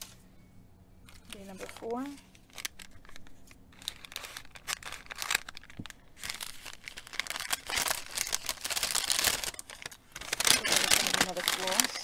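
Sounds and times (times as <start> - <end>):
paper bag crinkling: 1.1 - 12.0.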